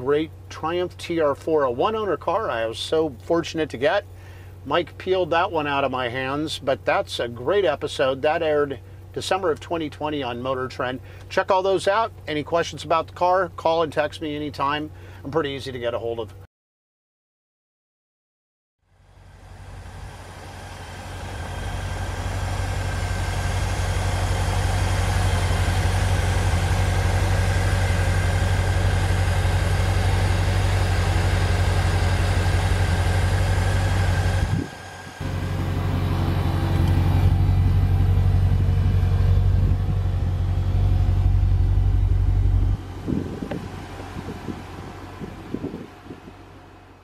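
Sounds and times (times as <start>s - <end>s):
car engine idling: 0.0s - 15.3s, 18.9s - 47.0s.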